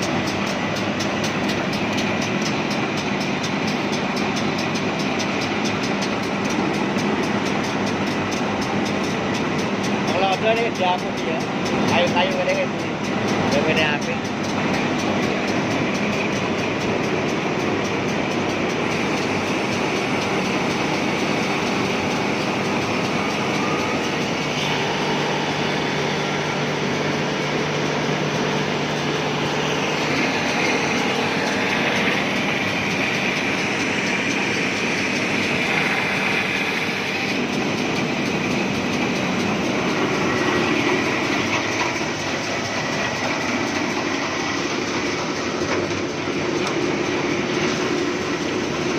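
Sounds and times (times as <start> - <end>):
wood moulding machine planing: 0.0 - 48.9.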